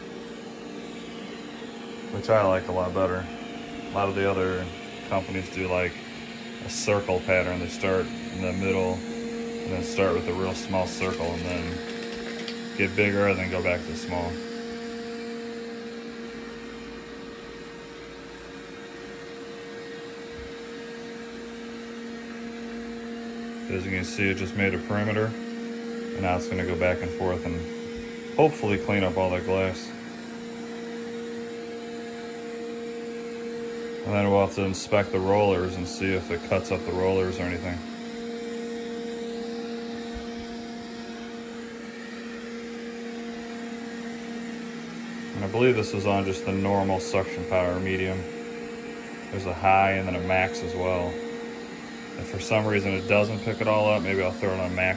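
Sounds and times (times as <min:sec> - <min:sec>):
robot vacuum running: 0:00.0 - 0:54.9.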